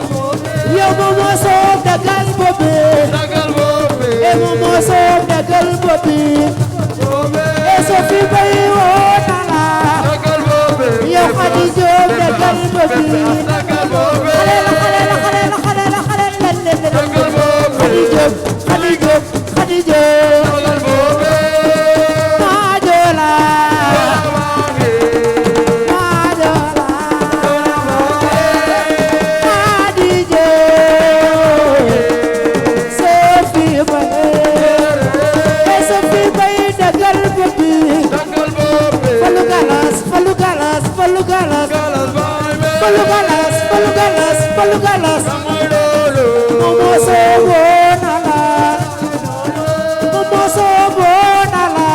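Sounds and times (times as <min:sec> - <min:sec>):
hand drums: 0:00.0 - 0:51.9
rattling shaker: 0:00.0 - 0:51.9.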